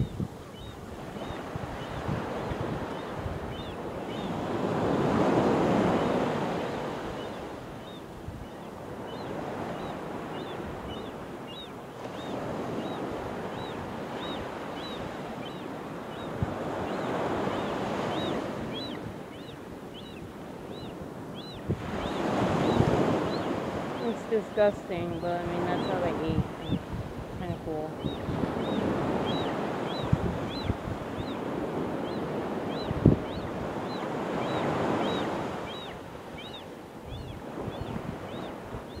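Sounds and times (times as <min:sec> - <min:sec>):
bird peeping: 0:00.0 - 0:02.1, 0:02.8 - 0:04.6, 0:05.9 - 0:26.9, 0:27.7 - 0:39.0.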